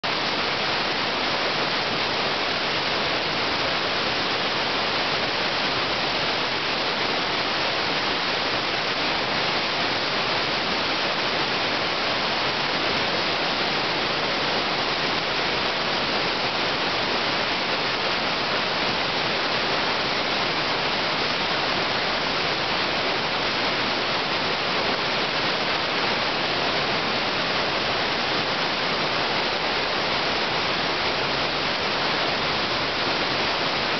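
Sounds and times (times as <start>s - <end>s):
whitewater rushing over rocks: 0.0s - 33.9s.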